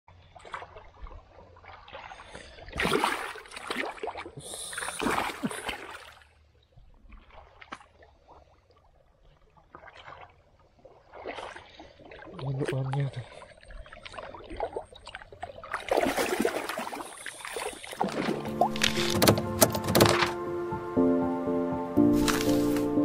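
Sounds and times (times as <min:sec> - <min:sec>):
water splashing in a pond: 0:00.1 - 0:20.4, 0:22.0 - 0:23.0.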